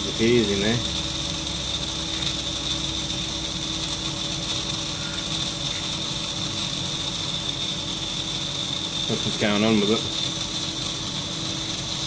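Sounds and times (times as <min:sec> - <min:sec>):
vacuum motor whining and rattling: 0:00.0 - 0:12.0.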